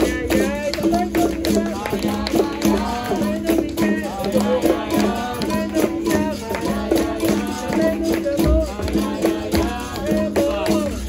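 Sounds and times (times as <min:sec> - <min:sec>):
pandeiro strokes: 0:00.0 - 0:11.0
voices singing call-and-response: 0:00.0 - 0:11.0.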